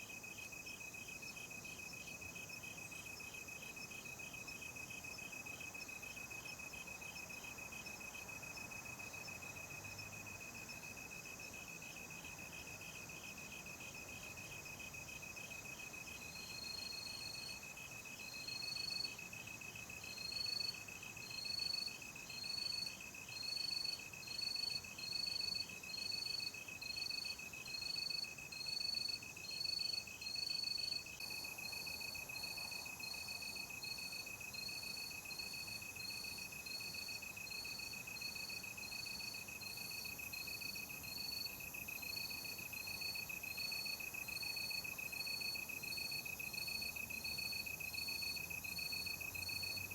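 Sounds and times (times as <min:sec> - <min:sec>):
cricket continuous high trill: 0:00.1 - 0:49.9.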